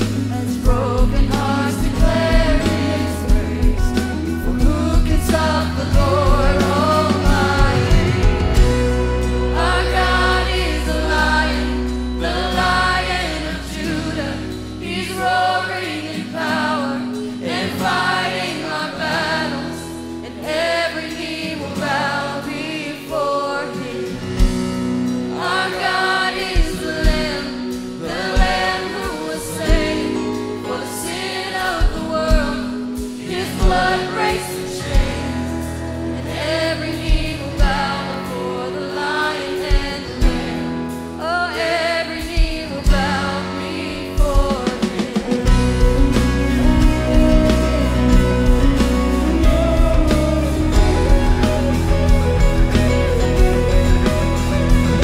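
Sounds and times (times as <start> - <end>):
woman singing lead vocals: 0.0 - 52.8
acoustic guitar: 0.0 - 55.0
bass guitar: 0.0 - 55.0
choir singing: 0.0 - 55.0
piano: 0.0 - 55.0.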